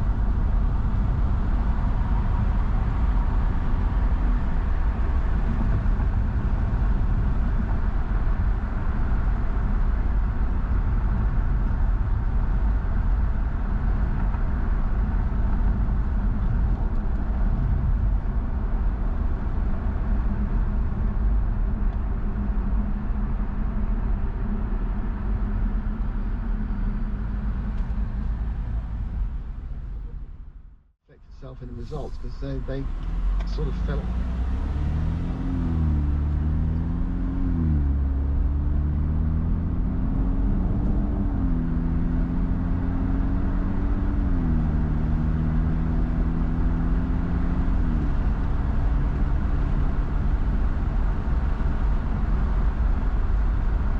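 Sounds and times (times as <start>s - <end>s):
car tyre and engine rumble: 0.0s - 53.9s.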